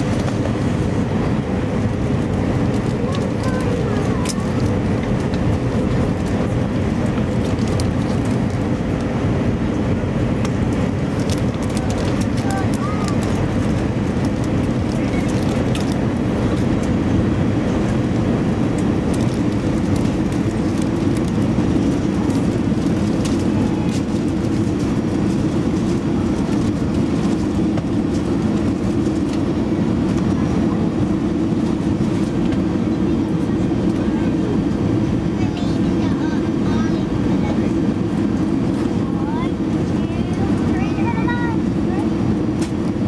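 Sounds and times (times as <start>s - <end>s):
jet engine cabin rumble: 0.0s - 43.0s.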